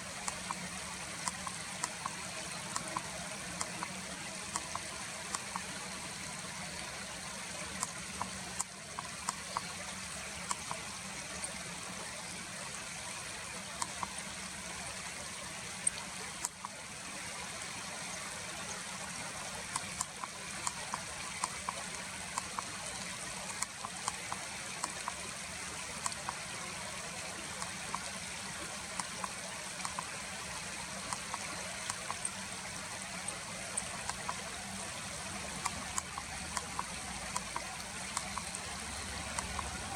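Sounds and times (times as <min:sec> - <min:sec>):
faint ticks: 0:00.0 - 0:16.8, 0:18.1 - 0:39.9
stream running water: 0:00.0 - 0:39.9.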